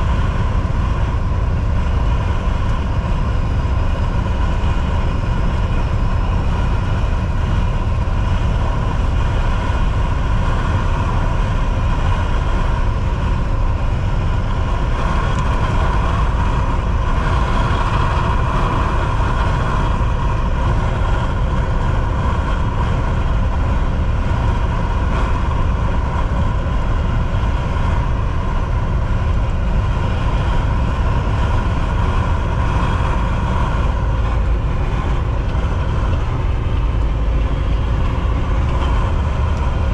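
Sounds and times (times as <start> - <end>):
mid-pitched hum: 0.0 - 39.9
truck engine drone: 0.0 - 39.9
tyre and road noise: 0.0 - 39.9.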